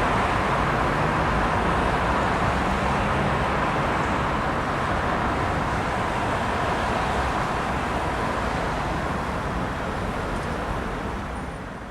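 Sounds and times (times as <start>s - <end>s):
road traffic noise: 0.0s - 11.9s.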